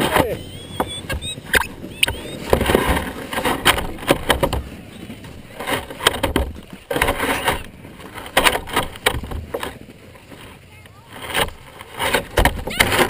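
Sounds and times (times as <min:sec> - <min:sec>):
plastic sled scraping over snow: 0:00.0 - 0:13.0
sled knocks and bumps: 0:00.0 - 0:13.0.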